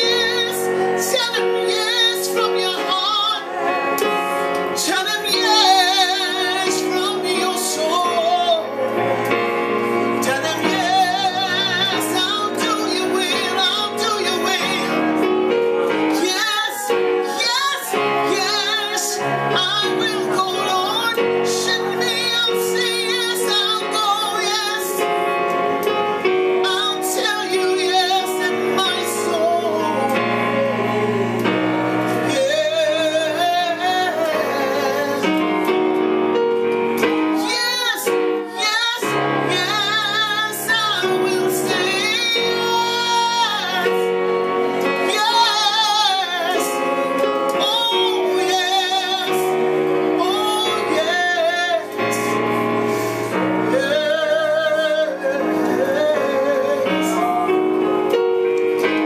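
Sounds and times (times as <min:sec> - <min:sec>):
woman singing with vibrato: 0:00.0 - 0:35.6, 0:37.3 - 0:58.4
electronic keyboard chords: 0:00.0 - 0:59.0.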